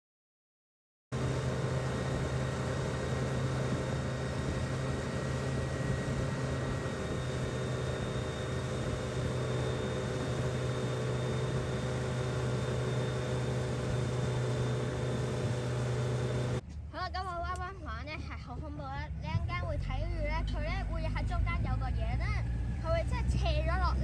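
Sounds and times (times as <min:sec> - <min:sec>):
motorboat engine droning: 0:01.1 - 0:16.7, 0:19.1 - 0:24.0.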